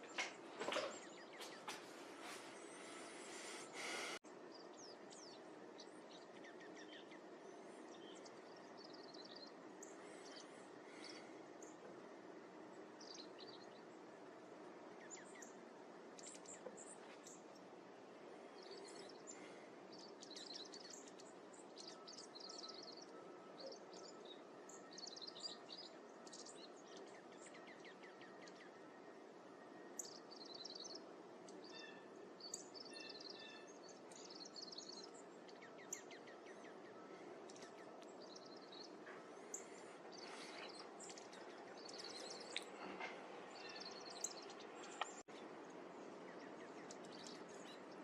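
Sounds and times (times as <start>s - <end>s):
faint background hiss: 0.0s - 48.0s
songbirds chirping: 0.0s - 48.0s.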